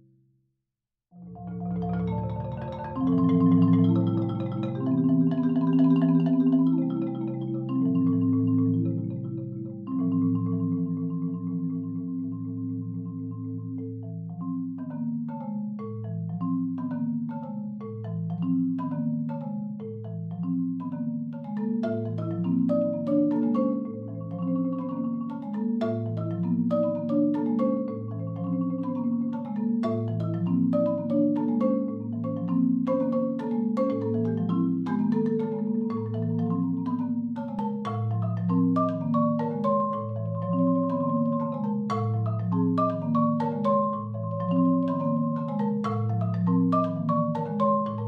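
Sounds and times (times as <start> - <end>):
marimba played with mallets: 1.2 - 48.0.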